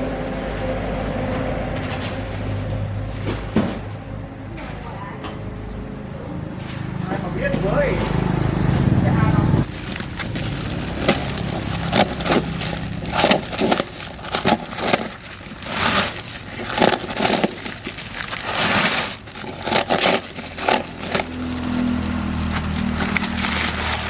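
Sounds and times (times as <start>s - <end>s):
knocks and scraping: 0.0s - 24.0s.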